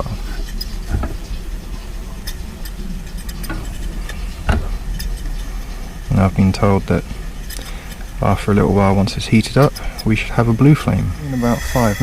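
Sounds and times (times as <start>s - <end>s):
stove burner rumble and hiss: 0.0s - 12.0s.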